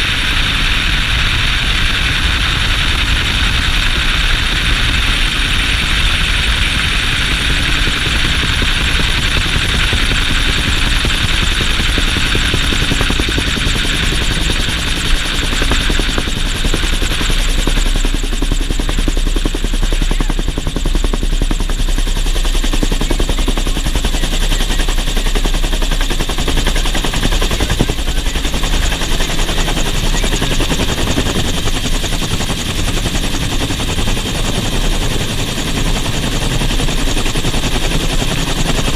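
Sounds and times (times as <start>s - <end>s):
helicopter rotor beating: 0.0s - 38.9s
turbine whine: 0.0s - 38.9s
wind noise: 0.0s - 38.9s.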